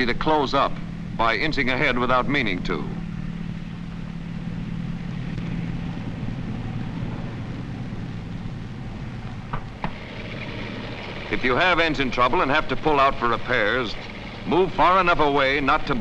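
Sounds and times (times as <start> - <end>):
low hum: 0.0 - 16.0
tank engines droning: 0.0 - 16.0.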